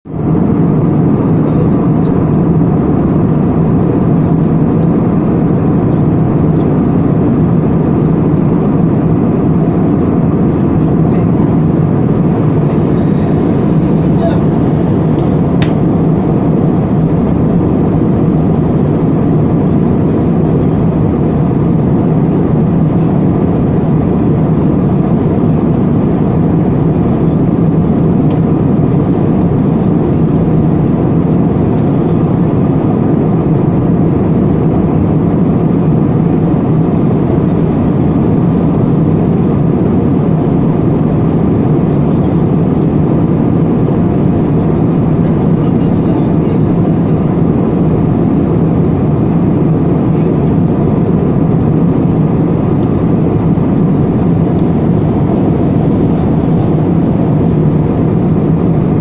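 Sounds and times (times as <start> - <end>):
airliner cabin engine rumble: 0.0 - 59.0.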